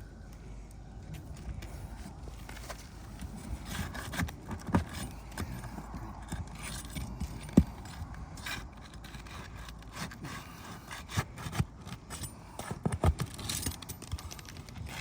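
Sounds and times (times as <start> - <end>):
tools scraping roof shingles: 1.6 - 15.0.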